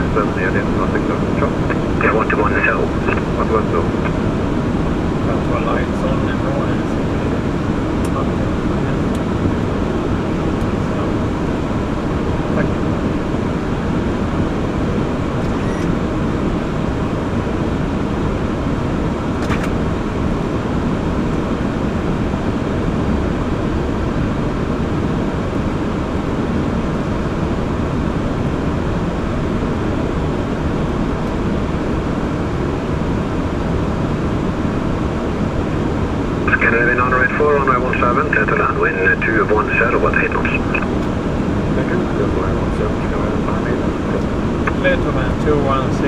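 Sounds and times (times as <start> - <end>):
cockpit airflow and engine noise: 0.0 - 46.0.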